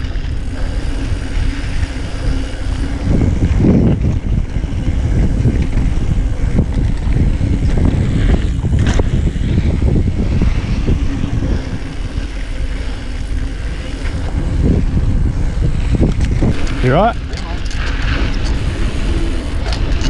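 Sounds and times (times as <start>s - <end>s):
bike knocking and rattling: 0.0s - 20.0s
tyres rumbling over dirt: 0.0s - 20.0s
wind buffeting microphone: 0.0s - 20.0s.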